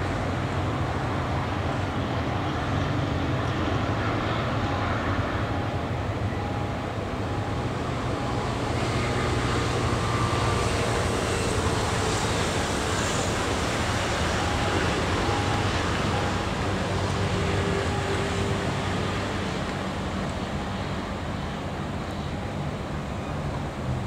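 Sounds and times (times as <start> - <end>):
city traffic: 0.0 - 24.0
diesel train rumbling: 0.0 - 24.0.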